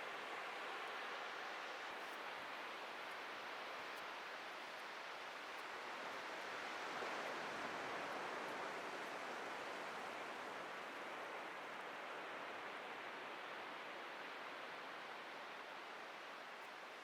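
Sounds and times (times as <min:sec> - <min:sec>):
surf washing on a beach: 0:00.0 - 0:17.0.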